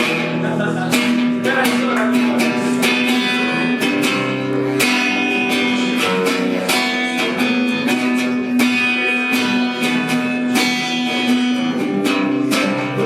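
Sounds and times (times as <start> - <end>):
guitar strumming chords: 0.0 - 13.0.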